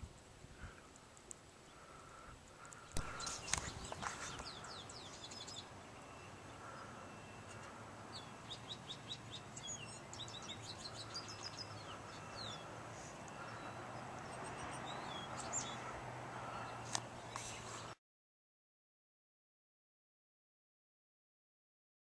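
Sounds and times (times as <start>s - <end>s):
faint background noise: 0.0s - 18.0s
songbirds chirping: 0.0s - 18.0s.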